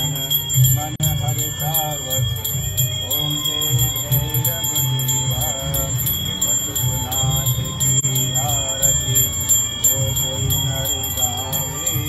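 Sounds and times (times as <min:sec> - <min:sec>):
bell ringing rapidly: 0:00.0 - 0:12.0
devotional music with singing: 0:00.0 - 0:12.0.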